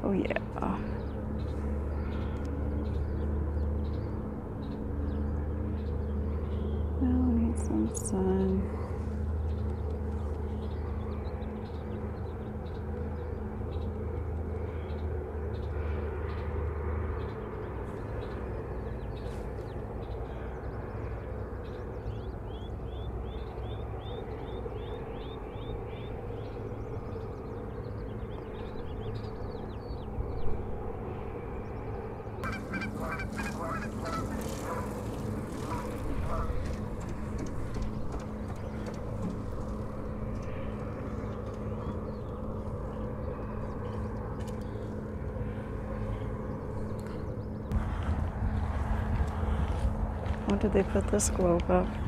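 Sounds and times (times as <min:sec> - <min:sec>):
birds calling: 0:00.0 - 0:30.6, 0:31.6 - 0:47.8
low outdoor rumble: 0:00.0 - 0:52.0.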